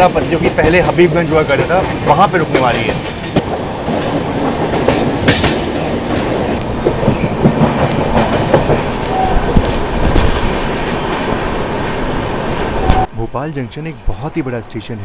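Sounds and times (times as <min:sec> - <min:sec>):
clickety-clack over rail joints: 0:00.0 - 0:13.1
train wheels rumbling on rail: 0:00.0 - 0:13.2.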